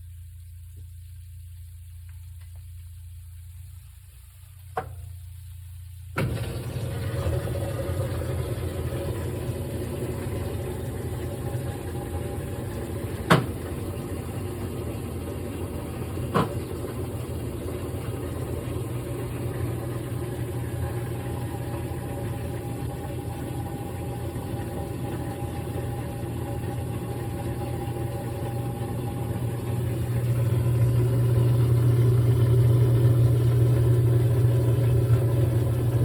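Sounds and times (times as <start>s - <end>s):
washing machine motor running: 0.0s - 36.0s.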